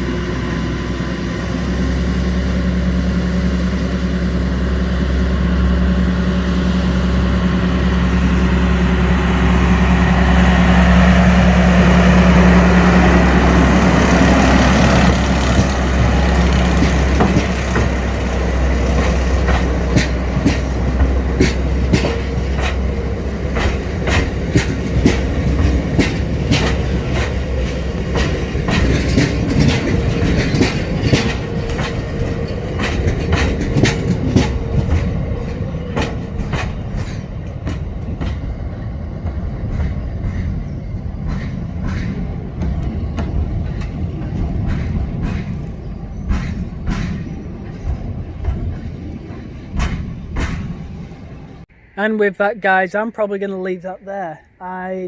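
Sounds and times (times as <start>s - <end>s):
diesel locomotive engine drone: 0.0s - 55.0s
train wheels clacking over rail joints: 6.1s - 51.6s.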